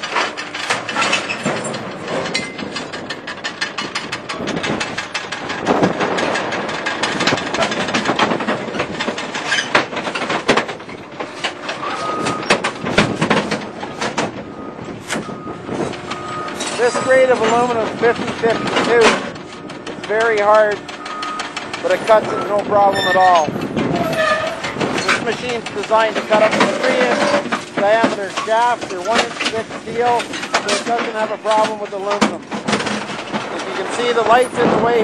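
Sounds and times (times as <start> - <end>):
scrap shear running: 0.0 - 35.0.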